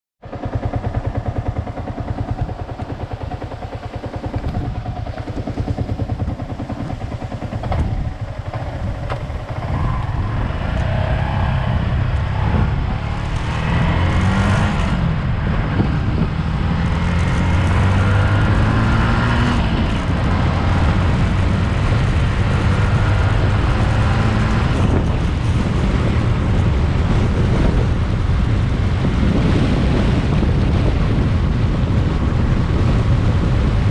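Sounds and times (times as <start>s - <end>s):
heavy low rumble: 0.2s - 33.9s
vehicle engine revving: 0.2s - 33.9s.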